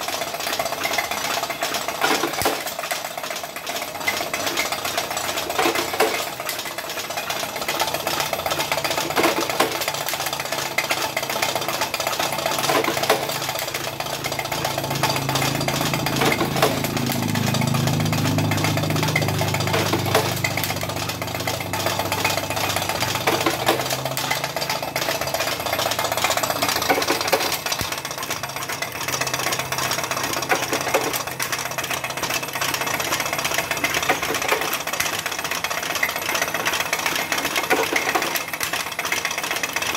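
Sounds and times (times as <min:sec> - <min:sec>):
fast mechanical clatter: 0:00.0 - 0:39.9.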